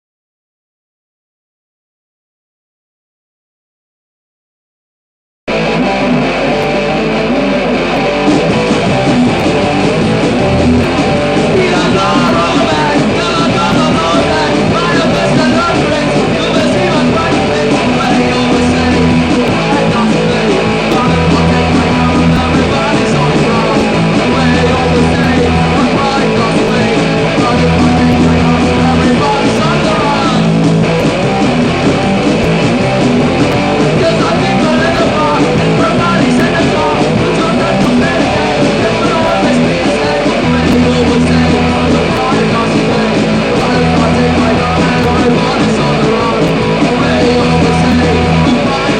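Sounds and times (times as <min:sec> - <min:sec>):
bass guitar: 0:05.5 - 0:48.9
drums: 0:05.5 - 0:48.9
electric guitar: 0:05.5 - 0:48.9
person singing: 0:05.7 - 0:48.9.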